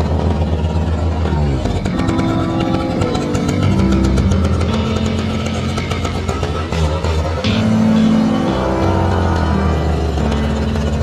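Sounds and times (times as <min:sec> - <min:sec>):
background music with low notes: 0:01.4 - 0:11.0.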